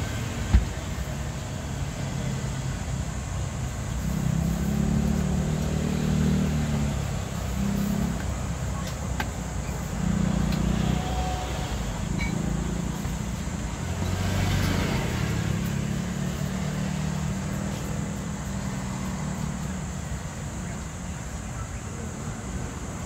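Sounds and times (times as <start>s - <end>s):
vehicle passing: 0.0s - 21.2s
vehicle engine humming: 0.0s - 23.0s.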